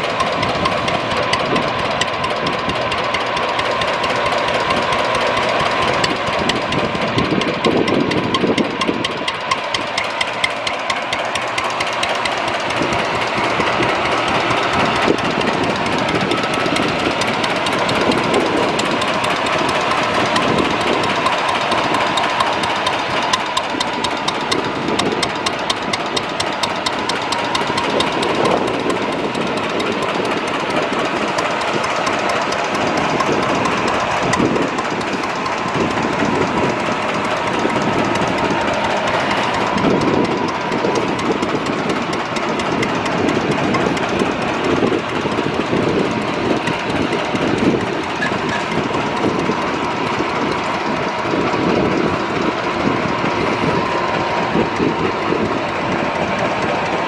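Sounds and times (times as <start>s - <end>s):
gas engine chuffing: 0.0s - 57.0s.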